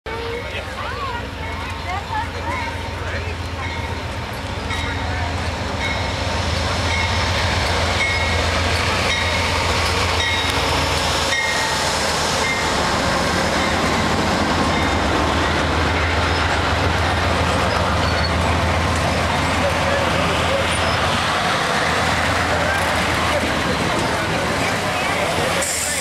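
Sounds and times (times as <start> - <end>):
passenger train rumbling past: 0.1 - 26.0.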